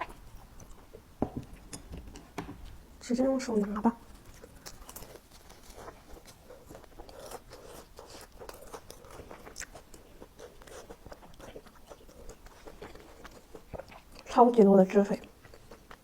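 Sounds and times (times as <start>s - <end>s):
chewing with wet mouth clicks: 0.0s - 2.8s, 3.5s - 14.4s, 15.1s - 16.0s.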